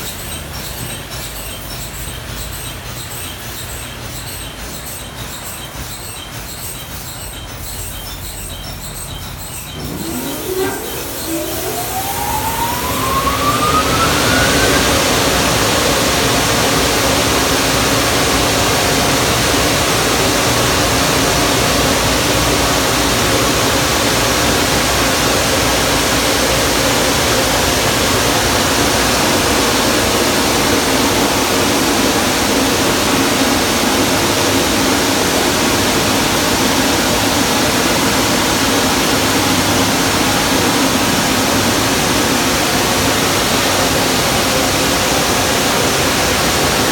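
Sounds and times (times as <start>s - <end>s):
car wash dryer blowers: 0.0s - 46.9s.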